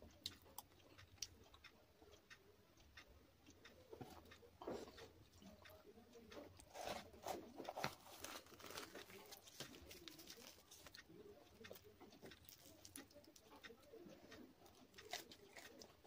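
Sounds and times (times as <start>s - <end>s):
chewing with mouth clicks: 0.0s - 16.0s.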